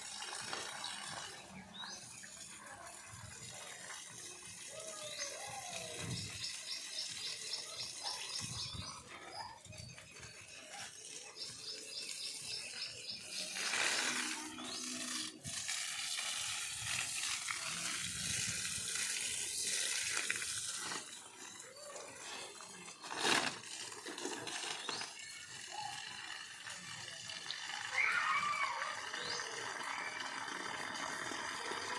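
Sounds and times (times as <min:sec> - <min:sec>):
water splashing onto plants: 0:00.0 - 0:08.1, 0:10.3 - 0:31.9.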